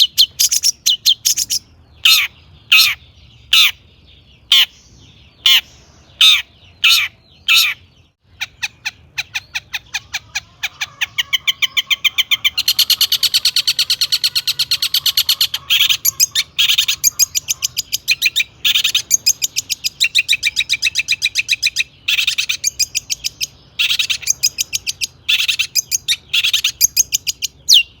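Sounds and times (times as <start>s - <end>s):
shrike singing: 0.0s - 28.0s.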